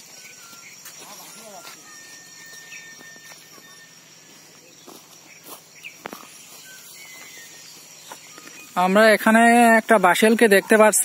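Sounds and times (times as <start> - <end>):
footsteps crunching dry leaves: 0.0 - 11.0
high insect drone: 0.0 - 11.0.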